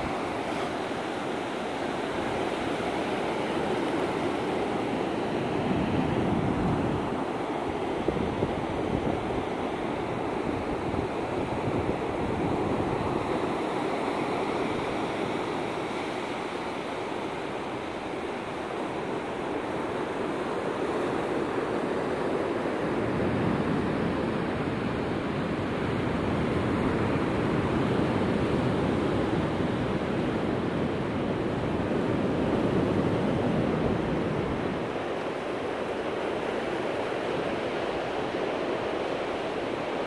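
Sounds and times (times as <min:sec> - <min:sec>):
ocean waves breaking on beach: 0:00.0 - 0:40.0.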